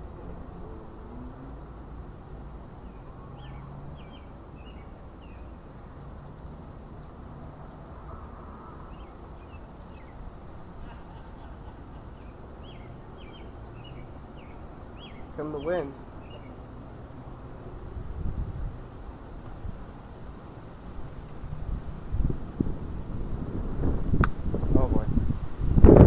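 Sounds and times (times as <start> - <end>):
birds chirping: 0.0 - 24.0
wind blowing: 0.0 - 26.0.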